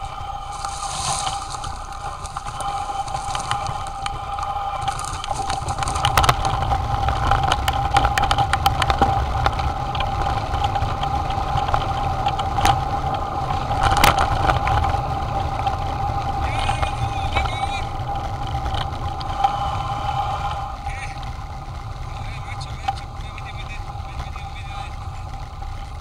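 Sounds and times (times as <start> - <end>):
bike rattling: 0.0 - 26.0
thin steady whine: 0.0 - 26.0
wind buffeting microphone: 0.0 - 26.0.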